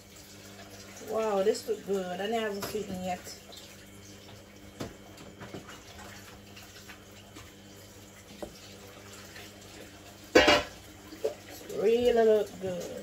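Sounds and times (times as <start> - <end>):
tap water running: 0.0 - 13.0.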